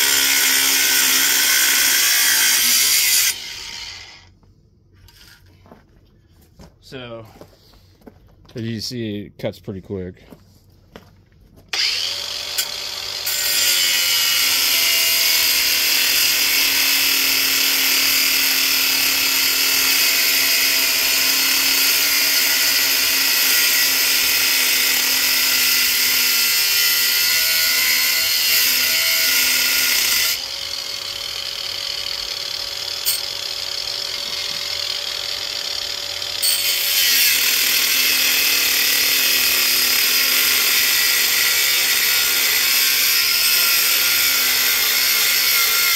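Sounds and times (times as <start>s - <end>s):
cutoff wheel grinding metal: 0.0s - 4.3s, 11.8s - 45.9s.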